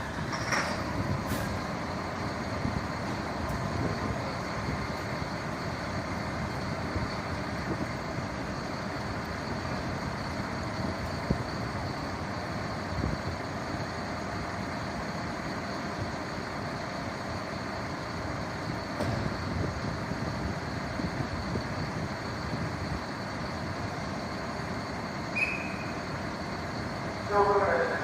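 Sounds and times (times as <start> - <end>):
faint steady whine: 0.0 - 28.0
vehicle engine rumble: 0.0 - 28.0.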